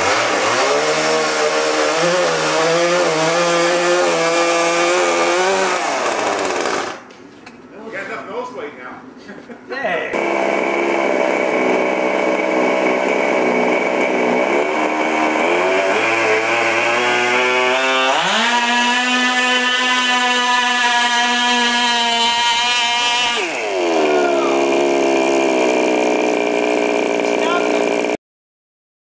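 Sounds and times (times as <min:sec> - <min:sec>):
small two-stroke engine revving: 0:00.0 - 0:07.0, 0:10.2 - 0:28.2.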